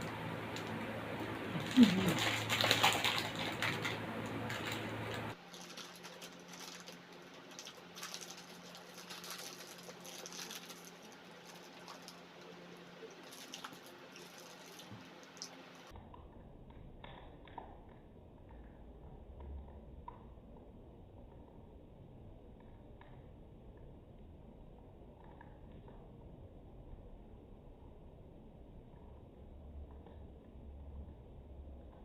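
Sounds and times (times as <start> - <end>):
background hum: 0.0 - 32.0.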